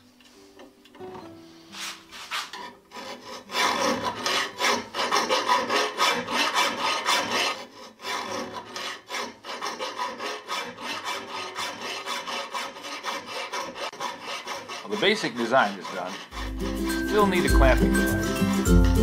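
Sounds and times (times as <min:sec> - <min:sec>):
hand file scraping steel: 0:01.3 - 0:19.0.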